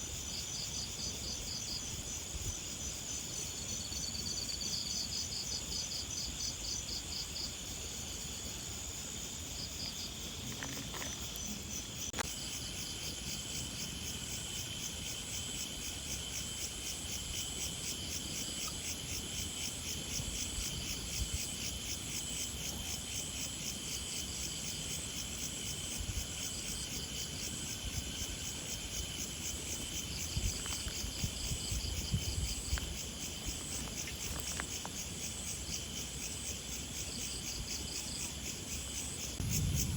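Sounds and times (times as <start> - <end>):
insects trilling: 0.0 - 39.9
pulsing insect chirp: 0.0 - 39.9.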